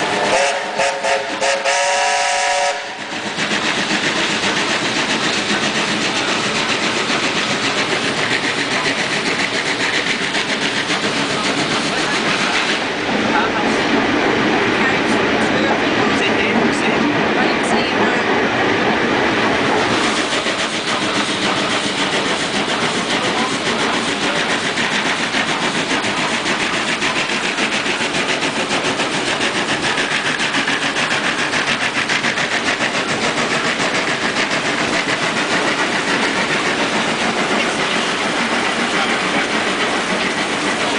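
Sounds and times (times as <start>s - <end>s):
moving train rushing and clattering: 0.0s - 40.9s.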